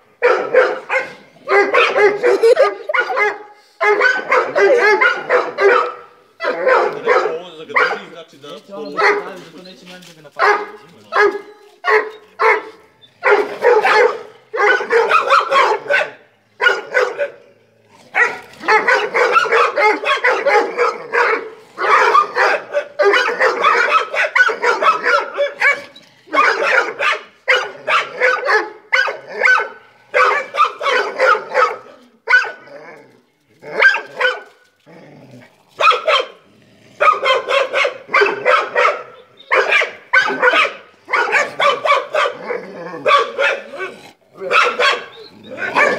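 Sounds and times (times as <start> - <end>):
dogs barking: 0.2 - 8.2, 8.8 - 9.5, 10.4 - 17.5, 18.1 - 32.7, 33.8 - 34.6, 35.8 - 36.4, 37.0 - 45.9.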